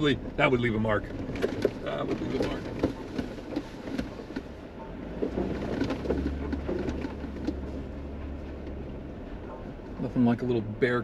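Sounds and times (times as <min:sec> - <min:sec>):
low engine and road rumble: 0:00.0 - 0:11.0
knocks and rattles of car body: 0:00.9 - 0:09.9.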